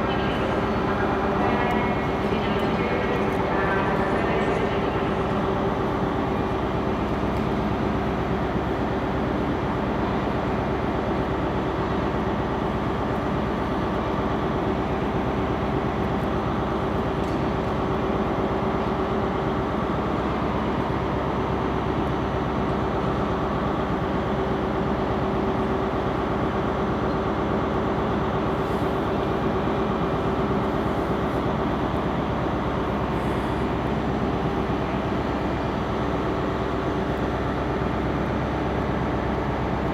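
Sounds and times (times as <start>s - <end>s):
train equipment humming: 0.0s - 39.9s.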